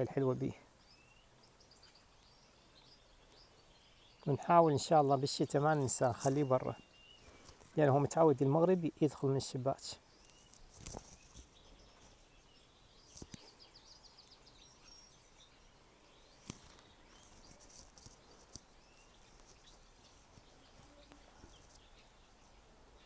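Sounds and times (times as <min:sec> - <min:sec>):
small bird chirping: 0:00.0 - 0:08.1, 0:10.0 - 0:23.0.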